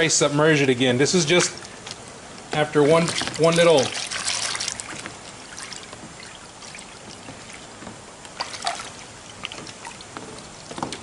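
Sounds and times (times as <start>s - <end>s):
water sloshing in plastic tub: 0.8s - 11.0s
water trickling and dripping: 1.0s - 11.0s.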